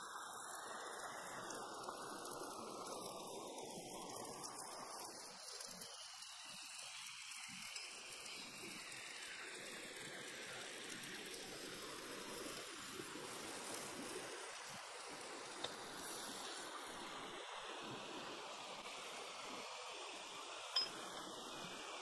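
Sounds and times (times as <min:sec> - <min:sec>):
seafood sizzling in sauce: 0:00.0 - 0:22.0.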